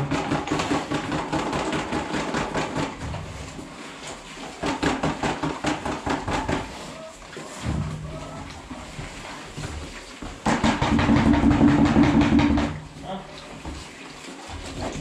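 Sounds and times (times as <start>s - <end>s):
pigs smacking and chomping: 0.0s - 15.0s.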